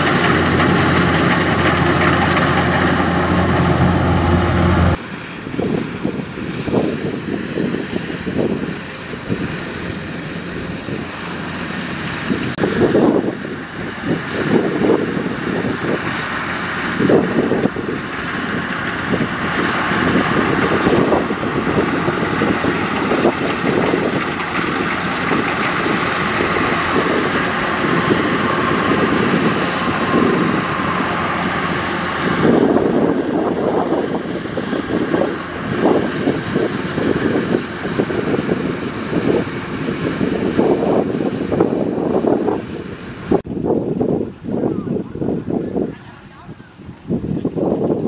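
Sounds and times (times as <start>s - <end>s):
combine harvester running: 0.0s - 48.0s
wind buffeting microphone: 0.0s - 48.0s.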